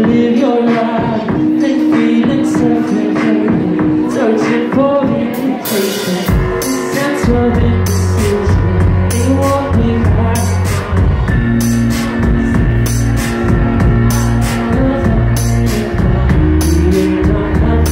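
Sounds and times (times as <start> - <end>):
heavy bass line: 0.0 - 17.9
live rock band playing: 0.0 - 17.9
male lead vocal: 0.0 - 17.9.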